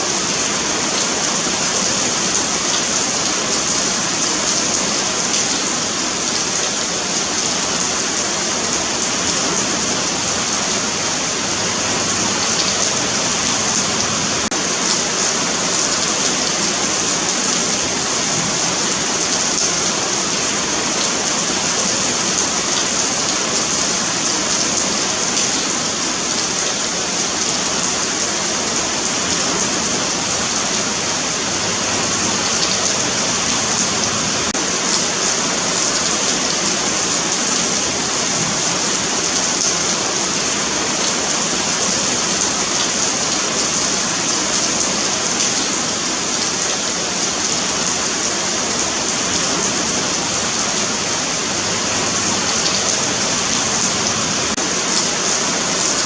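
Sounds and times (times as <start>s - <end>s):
rain on pavement: 0.0s - 56.0s.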